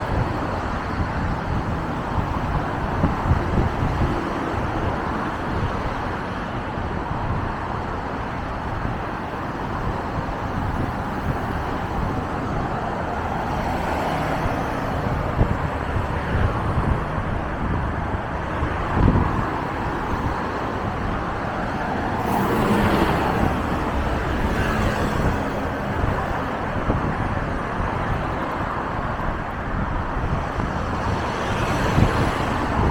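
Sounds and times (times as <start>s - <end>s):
buses driving by: 0.0s - 32.9s
road traffic: 0.0s - 32.9s.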